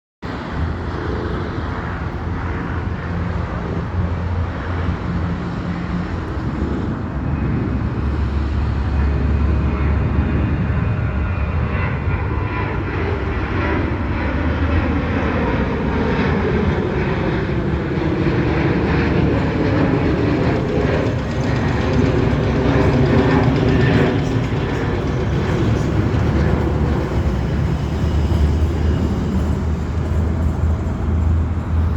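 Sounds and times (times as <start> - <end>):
loud jet rumble: 0.2 - 31.9.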